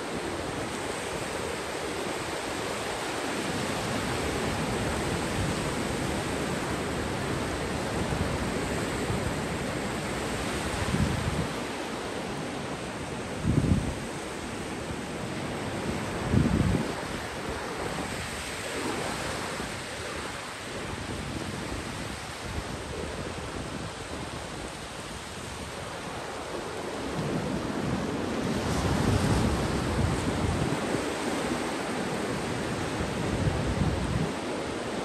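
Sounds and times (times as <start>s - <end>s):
waves breaking on beach: 0.0s - 35.0s
wind buffeting microphone: 3.4s - 11.8s, 12.7s - 35.0s.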